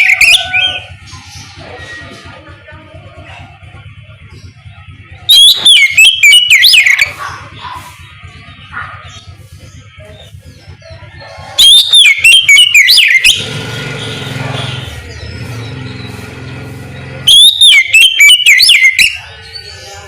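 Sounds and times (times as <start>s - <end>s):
bird whistling song: 0.0s - 2.4s, 4.3s - 20.0s.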